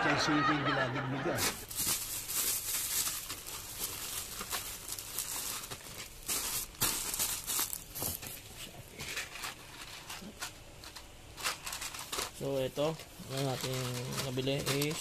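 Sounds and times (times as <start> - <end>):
plastic pouch and bubble wrap crinkling: 1.4 - 15.0.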